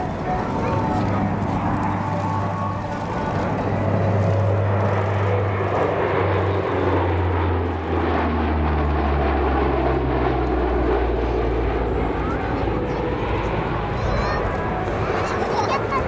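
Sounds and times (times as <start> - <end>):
propeller aircraft passing overhead: 0.0 - 16.0.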